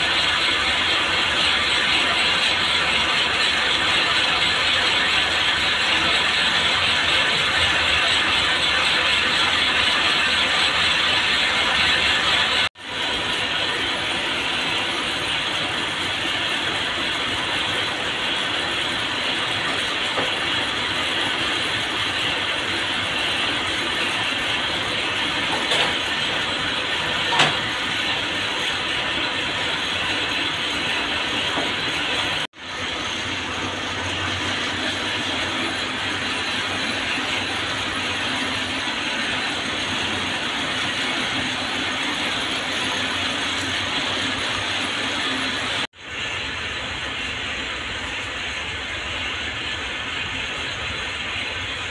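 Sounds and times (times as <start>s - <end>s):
braiding machines clattering: 0.0s - 47.4s.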